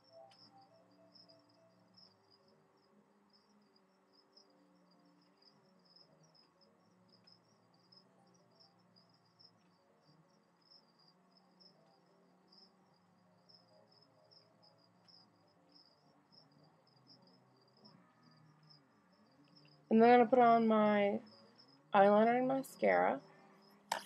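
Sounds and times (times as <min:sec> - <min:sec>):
cricket chirping: 0:00.0 - 0:24.0
faint low hum: 0:00.0 - 0:24.0.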